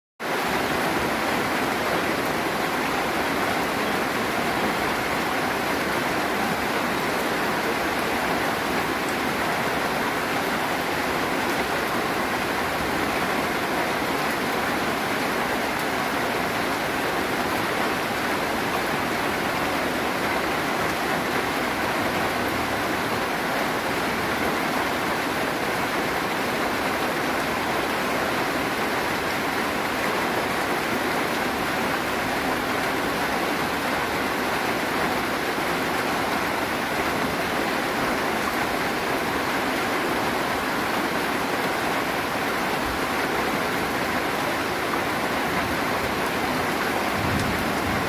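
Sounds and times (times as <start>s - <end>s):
heavy rain hiss: 0.3s - 48.0s.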